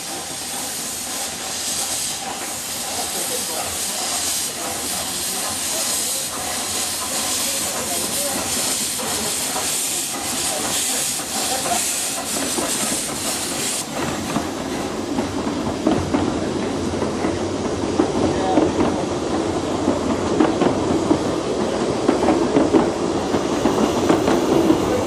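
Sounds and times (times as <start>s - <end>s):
steam hissing: 0.0s - 25.0s
train rolling rumble: 0.0s - 25.0s.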